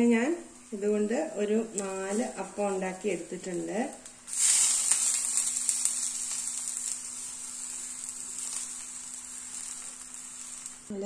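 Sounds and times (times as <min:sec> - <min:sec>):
batter sizzling on hot griddle: 0:00.0 - 0:11.0.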